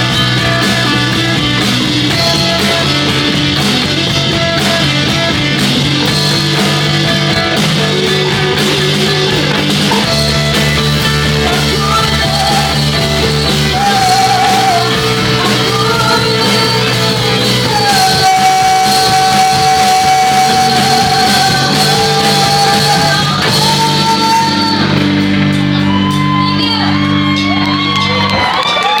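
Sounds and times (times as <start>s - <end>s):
woman singing lead: 0.0s - 5.3s, 6.0s - 29.0s
live rock band: 0.0s - 29.0s.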